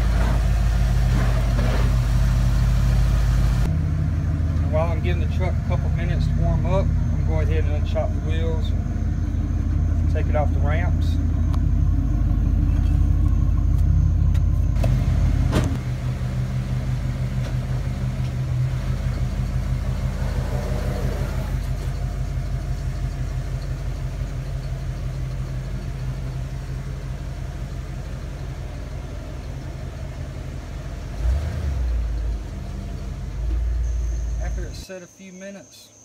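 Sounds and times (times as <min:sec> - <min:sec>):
engine idling: 0:00.0 - 0:34.8.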